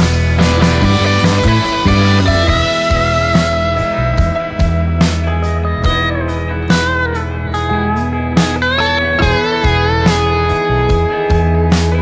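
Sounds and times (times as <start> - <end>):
steady beat: 0.0 - 7.8, 8.4 - 12.0
slide guitar: 0.0 - 12.0.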